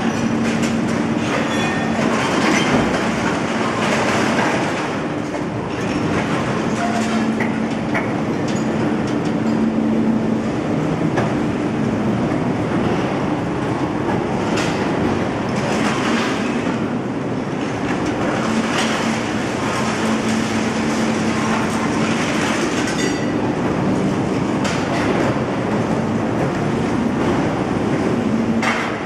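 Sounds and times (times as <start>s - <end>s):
crane drive drone and hum: 0.0s - 29.0s.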